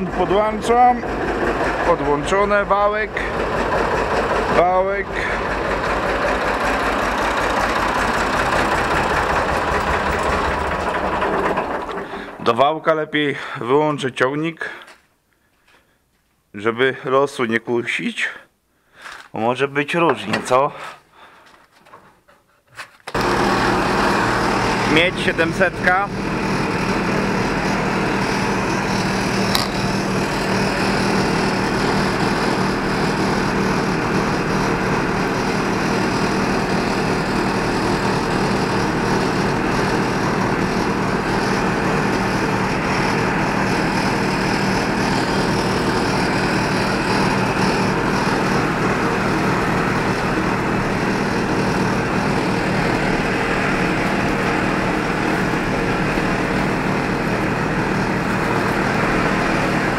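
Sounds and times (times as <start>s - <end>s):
tractor engine running: 0.0s - 12.7s, 23.1s - 59.9s.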